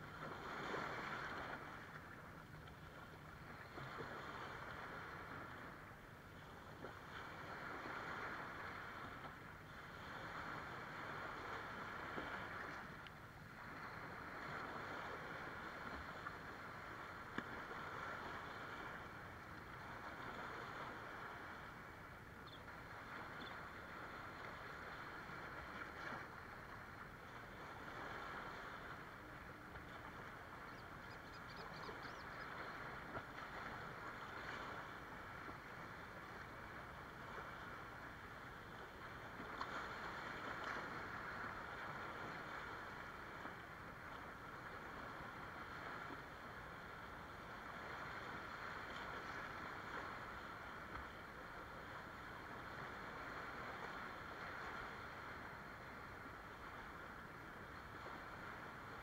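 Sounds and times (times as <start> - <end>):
small waves breaking on rocks: 0.1 - 30.8, 31.9 - 59.0.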